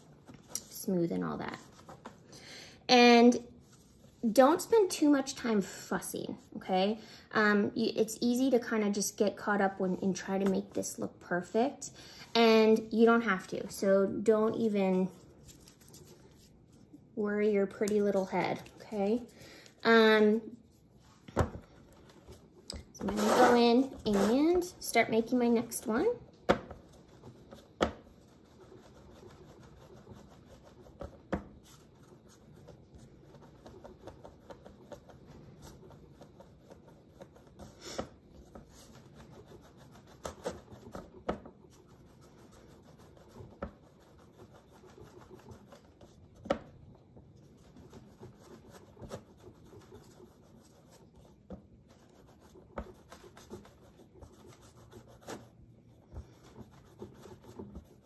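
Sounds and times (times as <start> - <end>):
soft rubbing of clay: 3.3 - 6.7, 8.4 - 58.0.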